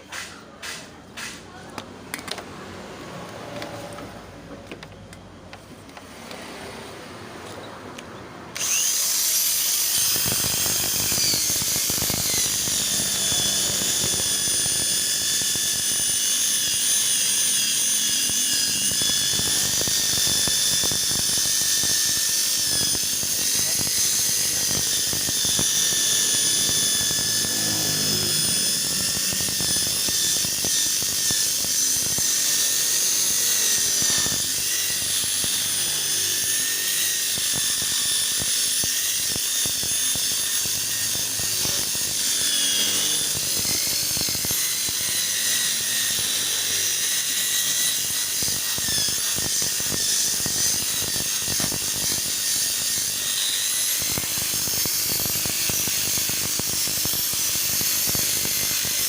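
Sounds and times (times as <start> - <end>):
power tool motor whine: 5.6 - 59.0.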